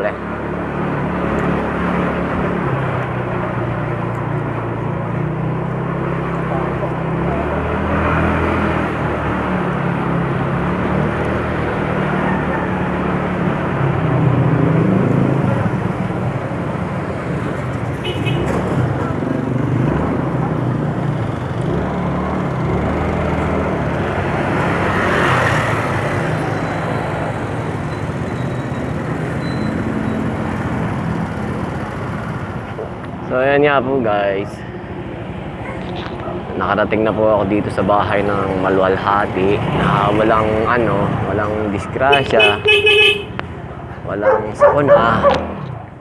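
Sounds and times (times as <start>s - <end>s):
road and traffic noise: 0.0s - 46.0s.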